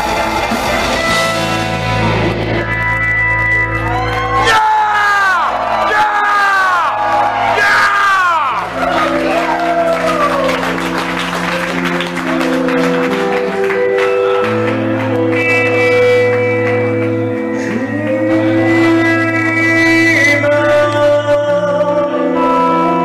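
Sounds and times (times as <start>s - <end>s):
crowd noise: 0.0s - 23.0s
held electric guitar chords: 0.0s - 23.0s
metal band playing live: 0.0s - 23.0s.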